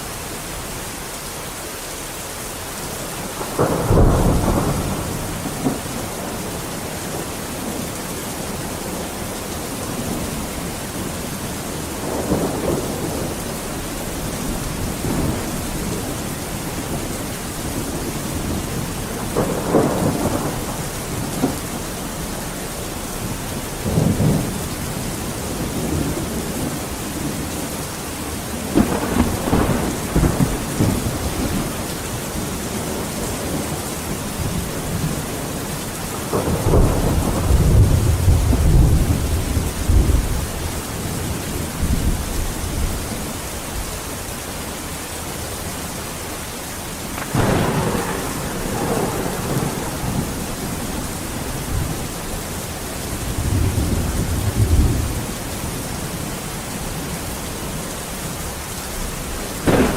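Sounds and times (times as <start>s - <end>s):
steady rain: 0.0s - 59.9s
thunder rumbling: 3.2s - 7.8s, 8.4s - 43.3s, 47.0s - 56.3s, 58.3s - 59.9s.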